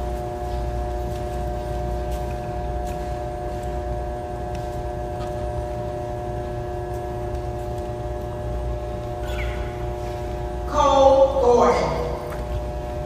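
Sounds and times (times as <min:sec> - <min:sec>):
mechanical hum with held tones: 0:00.0 - 0:13.0.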